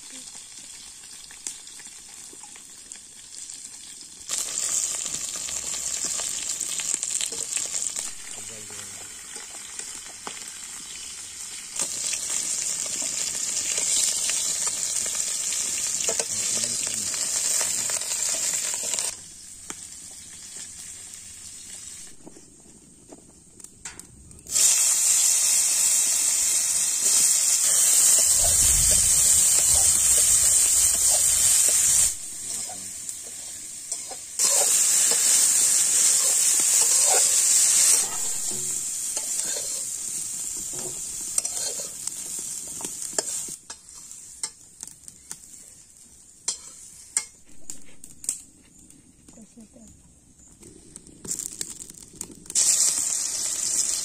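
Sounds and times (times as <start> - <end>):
vegetables sizzling in hot oil: 0.0 - 22.3, 24.4 - 48.4, 51.3 - 54.0.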